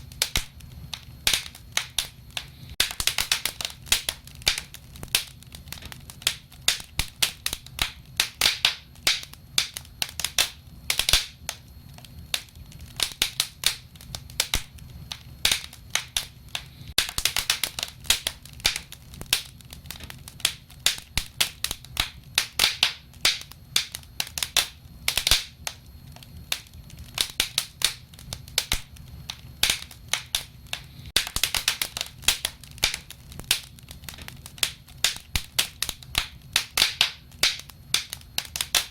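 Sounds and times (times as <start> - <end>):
low burning rumble: 0.0 - 38.9
wood fire popping and snapping: 0.0 - 38.9.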